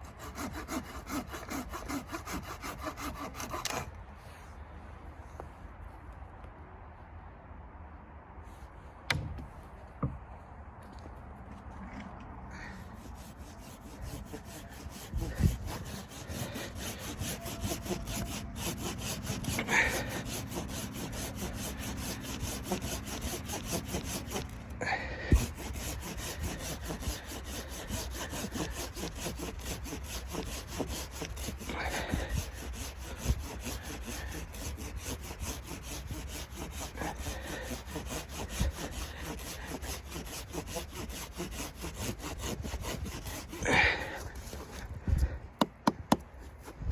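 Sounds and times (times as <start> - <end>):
hand saw cutting wood: 0.0 - 4.0, 12.6 - 46.9.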